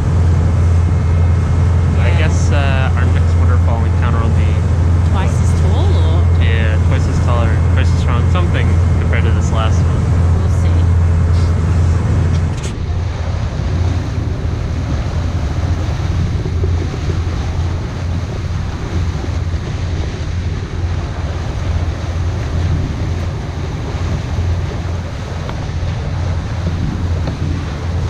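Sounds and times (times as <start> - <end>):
boat engine drone: 0.0 - 28.0
wind buffeting microphone: 0.0 - 28.0.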